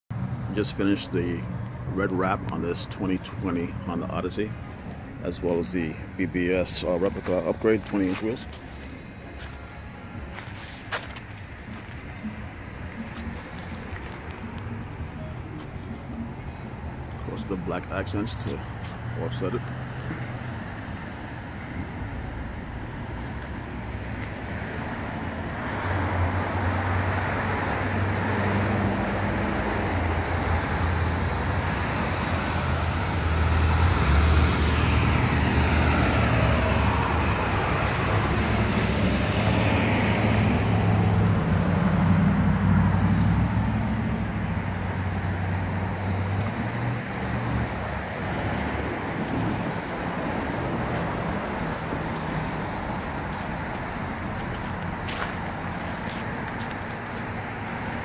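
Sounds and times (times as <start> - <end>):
road traffic engine hum: 0.1 - 58.0.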